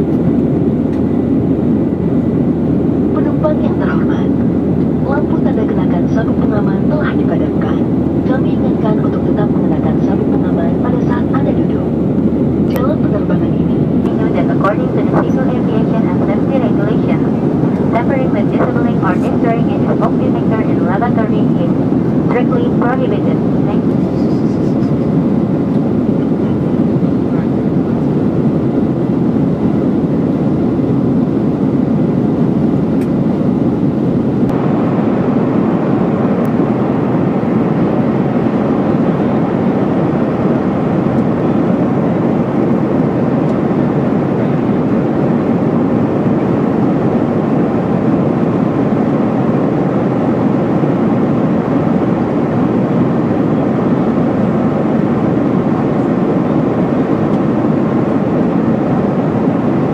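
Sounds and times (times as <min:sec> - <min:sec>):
airplane cabin engine roar: 0:00.0 - 0:59.9
rushing airflow: 0:00.0 - 0:59.9.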